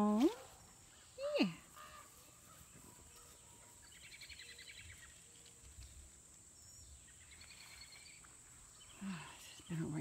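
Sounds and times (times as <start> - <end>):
faint rural ambience: 0.0 - 10.0.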